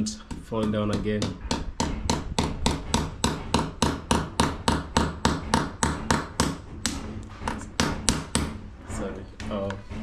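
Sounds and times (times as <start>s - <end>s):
hammer striking nail: 0.1s - 8.7s.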